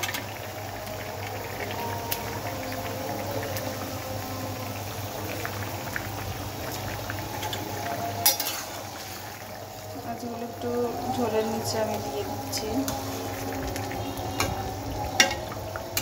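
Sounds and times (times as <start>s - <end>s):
thick curry bubbling in a pot: 0.0s - 16.0s.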